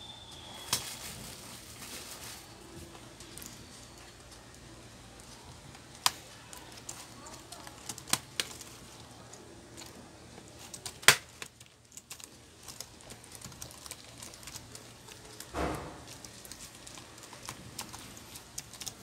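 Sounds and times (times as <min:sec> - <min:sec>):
laptop keyboard typing: 0:03.3 - 0:19.0.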